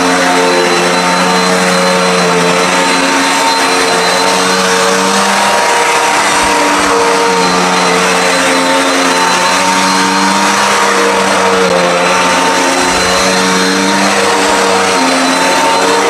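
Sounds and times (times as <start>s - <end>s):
vacuum cleaner running on carpet: 0.0s - 16.0s.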